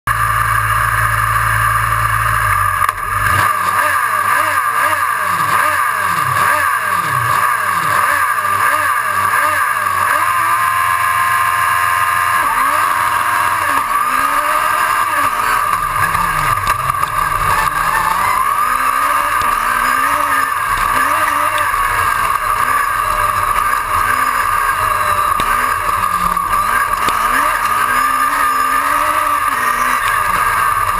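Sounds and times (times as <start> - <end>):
race car engine revving: 0.1 - 30.9.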